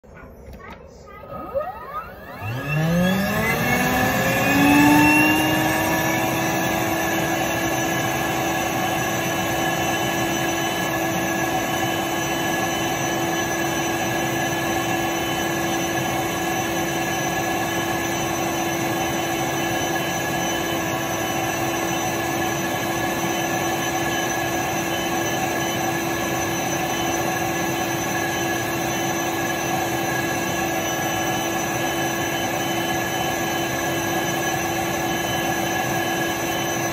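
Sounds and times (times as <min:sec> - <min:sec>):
vacuum cleaner motor running: 0:01.2 - 0:36.9.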